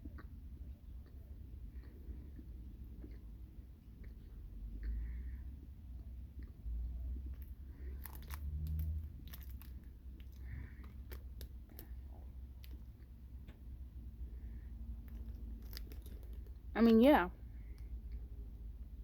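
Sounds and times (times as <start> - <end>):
person chewing: 0.0 - 13.6, 15.0 - 16.7.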